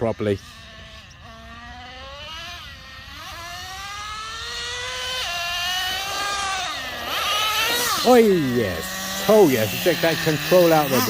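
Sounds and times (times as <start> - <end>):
rc truck nitro engine revving: 0.0 - 11.0.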